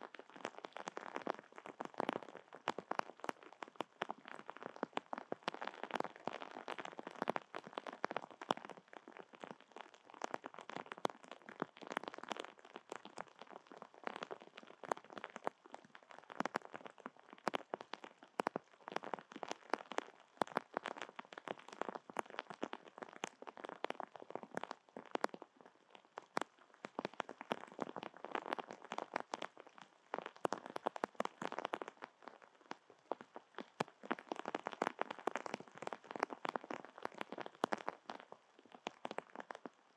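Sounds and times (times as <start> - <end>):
raindrops pattering on surfaces: 0.0 - 39.8.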